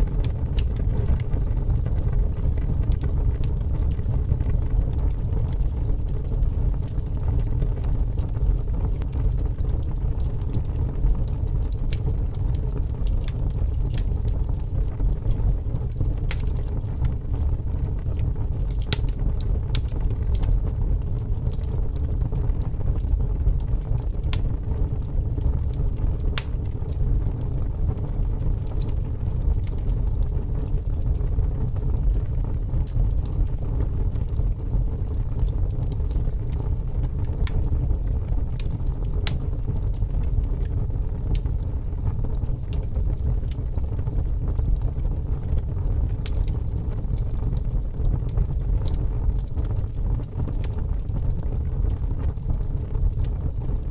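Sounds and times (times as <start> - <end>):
fire flames rumbling: 0.0 - 53.9
logs crackling and popping: 0.0 - 53.9.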